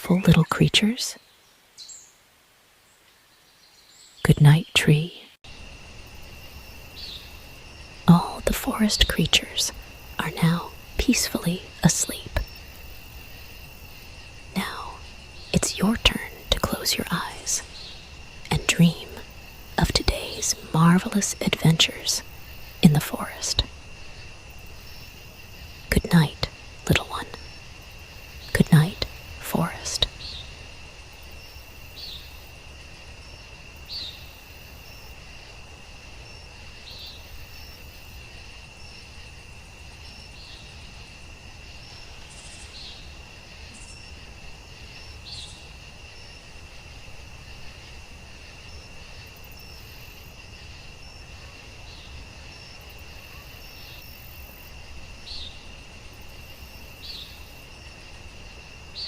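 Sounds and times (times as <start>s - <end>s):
crickets chirping: 0.1s - 59.0s.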